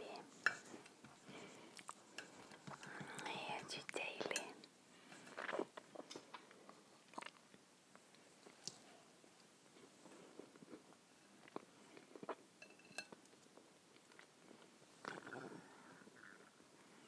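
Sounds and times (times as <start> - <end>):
quiet chewing: 0.2 - 12.4, 13.0 - 16.6.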